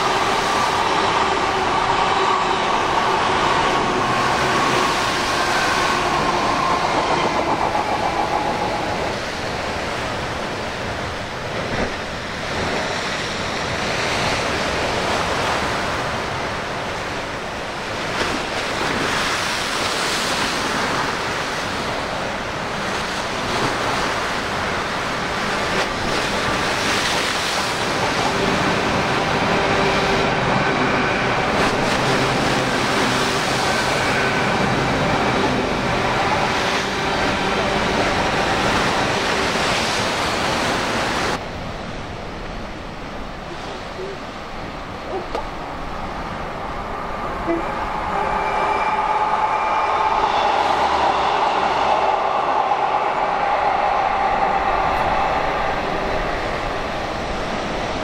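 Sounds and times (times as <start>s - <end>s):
sea waves breaking: 0.0s - 58.0s
wind buffeting microphone: 0.0s - 58.0s.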